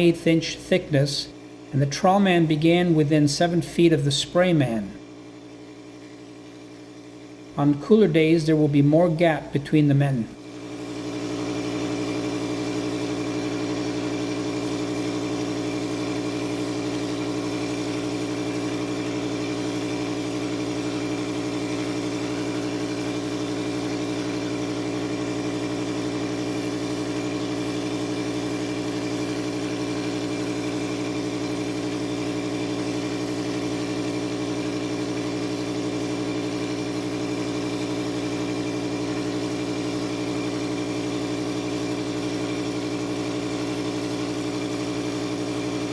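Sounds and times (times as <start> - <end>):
machine motor droning hum: 0.0 - 45.9.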